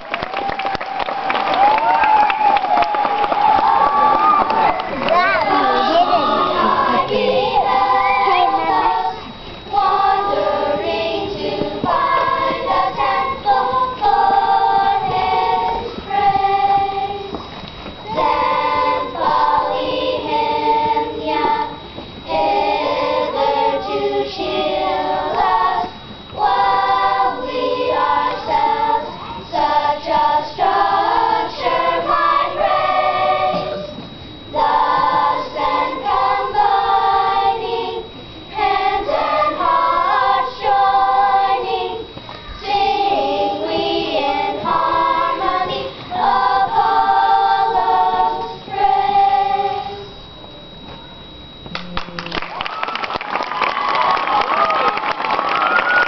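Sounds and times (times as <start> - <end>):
children's choir singing: 0.9 - 51.6.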